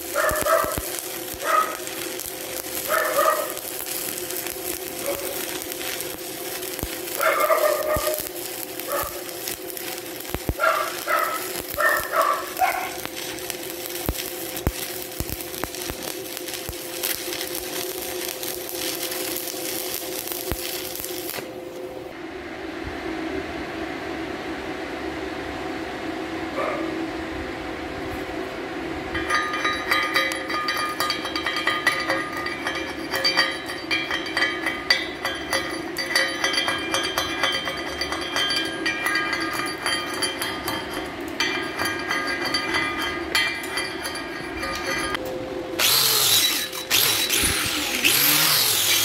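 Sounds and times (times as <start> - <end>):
welding arc crackling: 0.0 - 21.7, 29.1 - 49.0.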